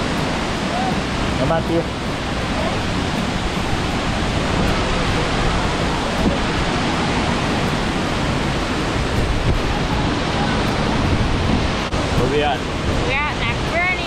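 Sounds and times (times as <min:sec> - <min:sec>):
waterfall and rapids rushing: 0:00.0 - 0:14.0.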